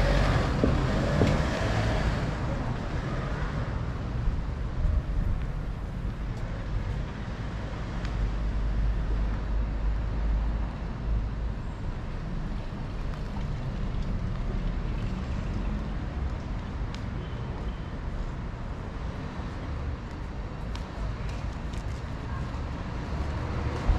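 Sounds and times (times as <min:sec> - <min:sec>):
low rumble of traffic: 0:00.0 - 0:23.9.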